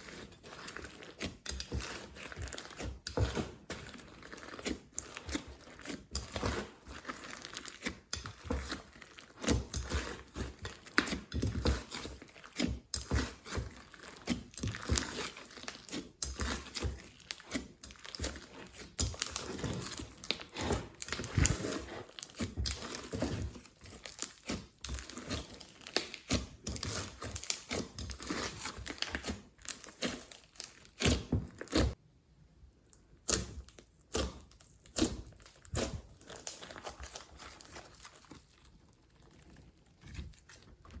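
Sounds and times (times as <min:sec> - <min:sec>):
hands squishing slime: 0:00.0 - 0:32.0, 0:33.2 - 0:41.0.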